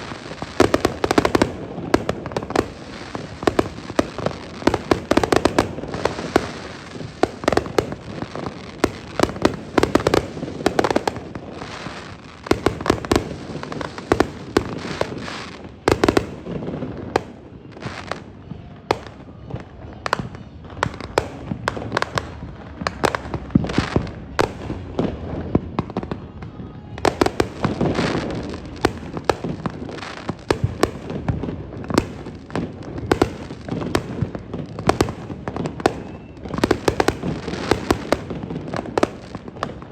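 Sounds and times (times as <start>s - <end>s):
firework bangs: 0.0s - 39.9s
firework crackling: 0.0s - 39.9s.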